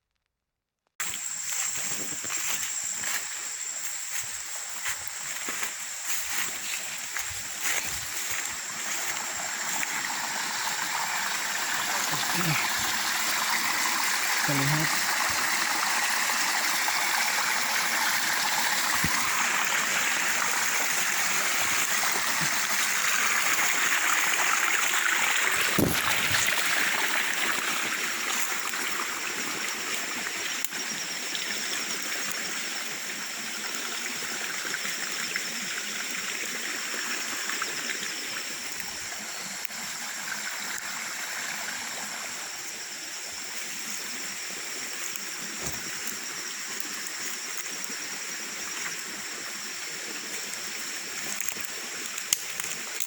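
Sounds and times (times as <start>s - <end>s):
stream water rushing: 1.1s - 53.0s.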